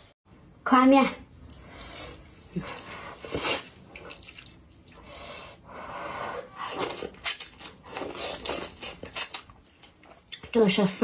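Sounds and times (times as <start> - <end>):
slurping and chewing noodles: 1.4 - 10.5.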